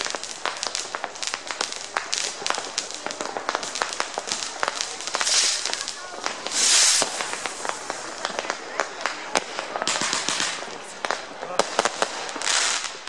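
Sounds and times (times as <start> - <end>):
distant fireworks bangs and pops: 0.0 - 13.0
firework hiss: 0.0 - 13.0.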